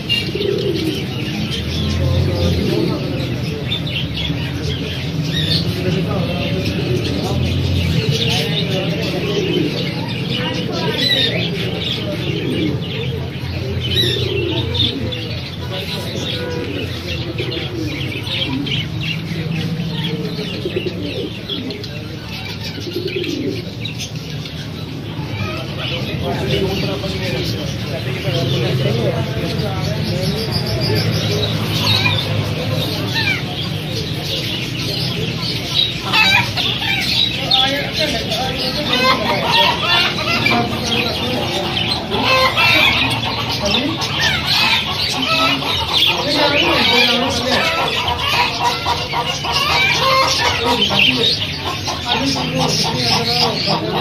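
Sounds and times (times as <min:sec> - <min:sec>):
birds chirping: 0:00.0 - 0:54.0
chickens clucking: 0:00.0 - 0:54.0
dove-like cooing: 0:00.0 - 0:54.0.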